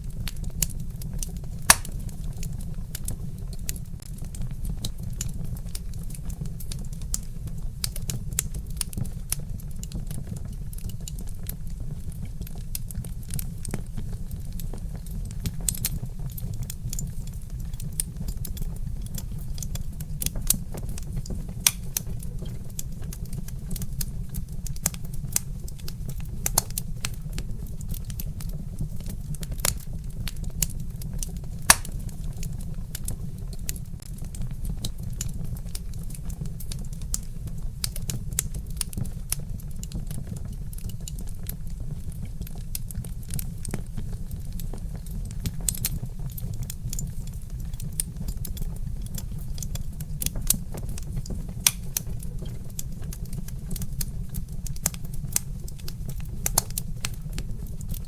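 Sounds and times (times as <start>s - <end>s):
log fire crackling and popping: 0.0s - 58.0s.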